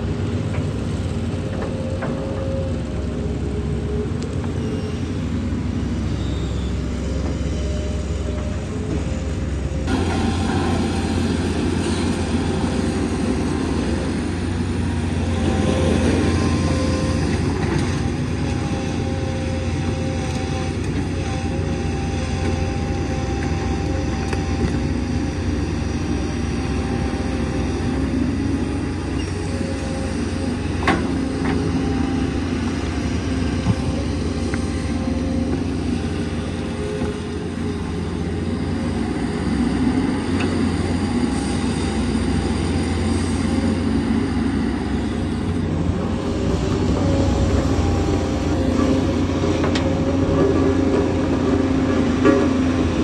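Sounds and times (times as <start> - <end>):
large engine rumbling: 0.0 - 53.0.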